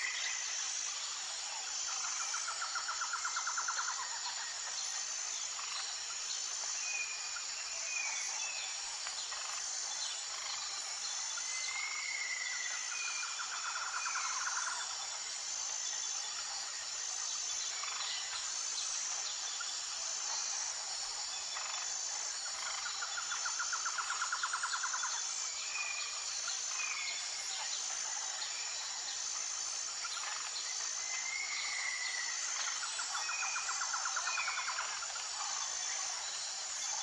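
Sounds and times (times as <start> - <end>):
buzzy insect trill: 0.0 - 37.0
high-pitched insect chorus: 0.0 - 37.0.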